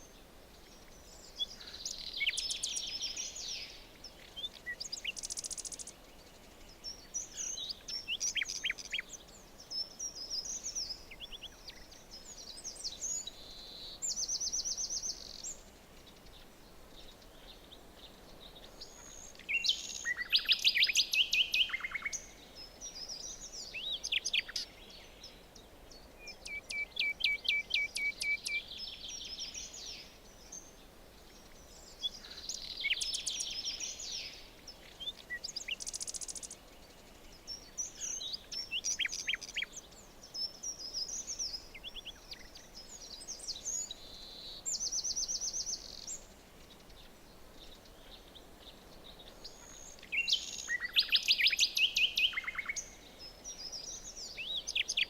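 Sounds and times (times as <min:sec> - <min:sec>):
faint steady background hiss: 0:00.0 - 0:55.0
songbirds singing and chirping: 0:00.0 - 0:55.0.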